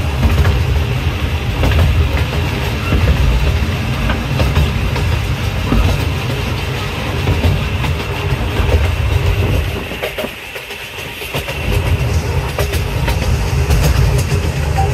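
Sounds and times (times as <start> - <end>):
train wheels rumbling on rails: 0.0 - 14.9
wheel clacks: 0.0 - 14.9.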